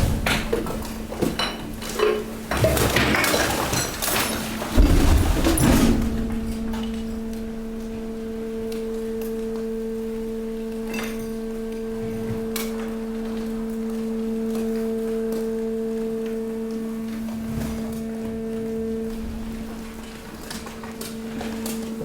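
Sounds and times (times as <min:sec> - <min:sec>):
hydraulic pump hum: 0:00.0 - 0:22.0.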